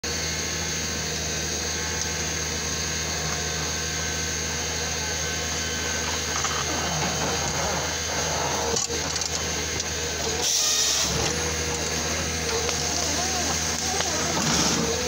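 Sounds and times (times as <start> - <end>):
high-pitched whine: 0.1 - 15.0
diesel engine humming: 0.3 - 15.0.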